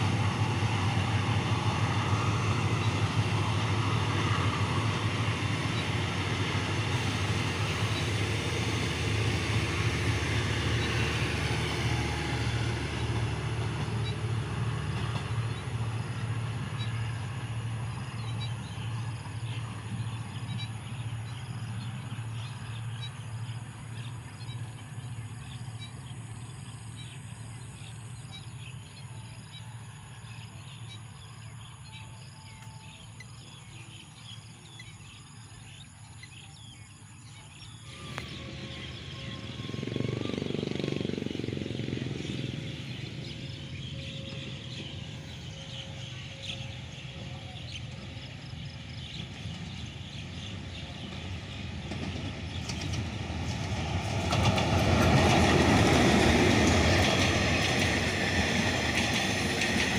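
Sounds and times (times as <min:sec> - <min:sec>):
birds chirping: 0:00.0 - 0:59.9
diesel locomotive passing: 0:00.0 - 0:59.9.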